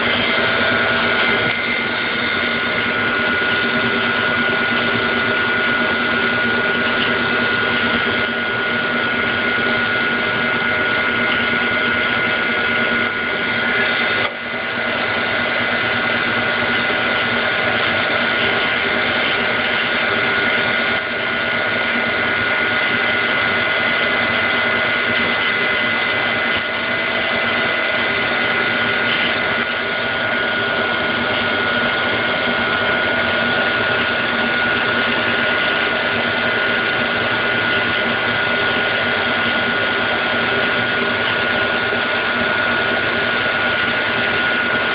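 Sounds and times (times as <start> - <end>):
compressor running: 0.0 - 44.9
high-pitched whine: 0.0 - 44.9.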